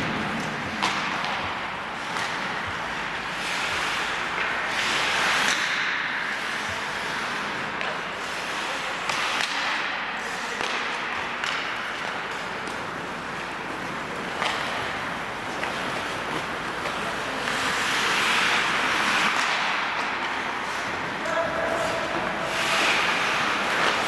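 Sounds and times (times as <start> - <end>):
skates scraping on ice: 0.0 - 24.0
sticks striking puck: 0.0 - 24.0.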